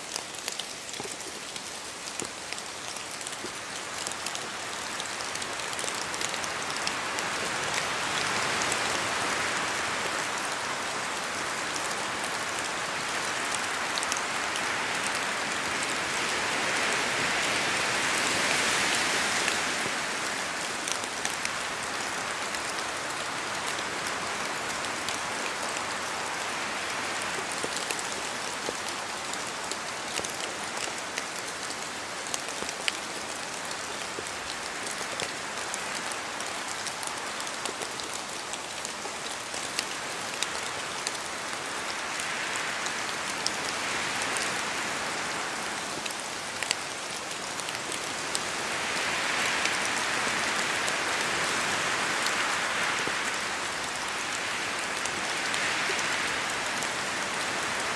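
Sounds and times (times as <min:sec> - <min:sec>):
rain falling in forest: 0:00.0 - 0:57.9
wind gusts through trees: 0:00.0 - 0:57.9.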